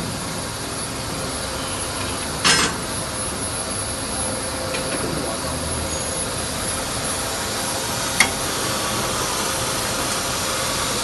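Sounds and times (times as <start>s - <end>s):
cold saw machine running: 0.0s - 11.0s.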